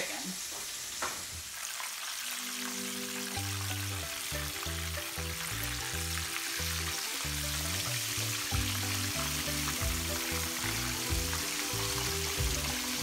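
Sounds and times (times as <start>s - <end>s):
chicken sizzling in hot oil: 0.0s - 13.0s
background music: 2.3s - 13.0s.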